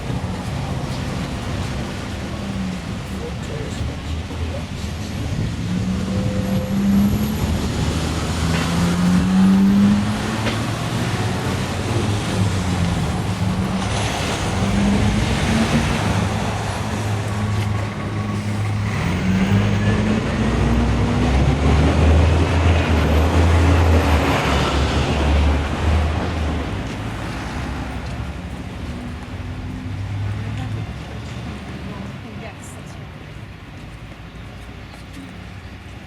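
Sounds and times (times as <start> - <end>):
large vehicle engine running: 0.0 - 36.0
road traffic: 0.0 - 36.0.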